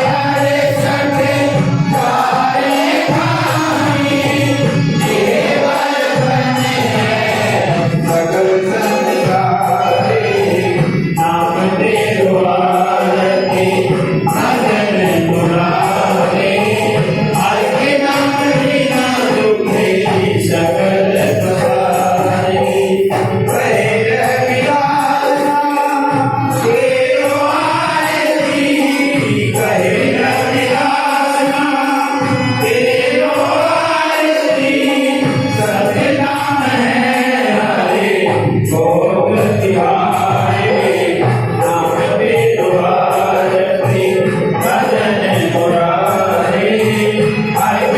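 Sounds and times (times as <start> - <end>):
devotional music: 0.0 - 47.9
group chanting a hymn: 0.0 - 47.9.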